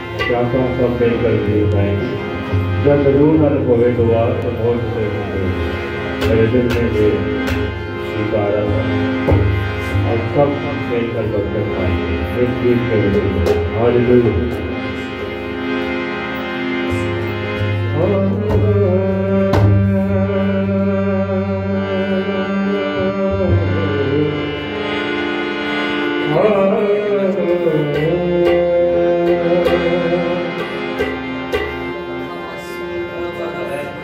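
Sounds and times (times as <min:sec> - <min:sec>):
harmonium: 0:00.0 - 0:34.0.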